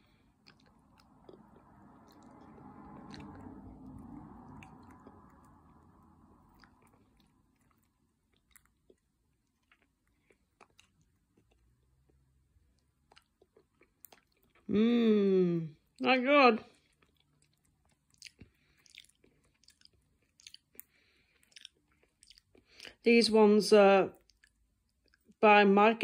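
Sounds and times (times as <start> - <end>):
chewing noodles: 0.0 - 14.7, 16.7 - 23.0, 24.2 - 25.4.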